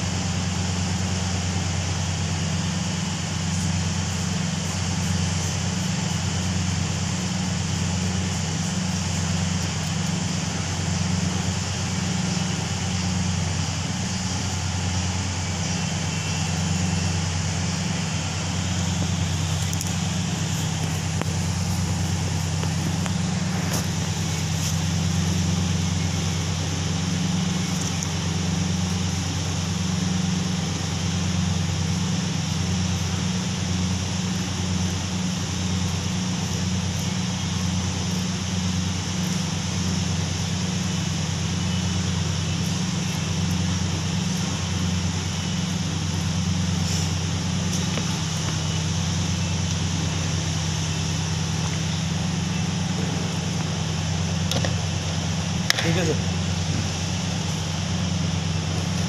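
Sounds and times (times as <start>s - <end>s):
constant hiss: 0.0s - 59.0s
machinery drone: 0.0s - 59.0s.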